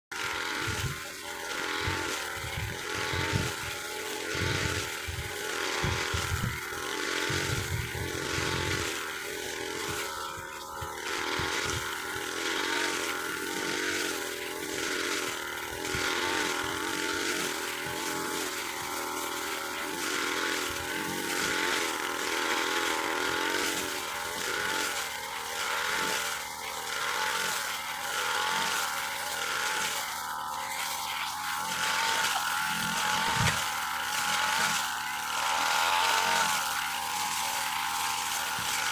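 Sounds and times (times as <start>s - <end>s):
brush cutter cutting grass: 0.0s - 38.9s.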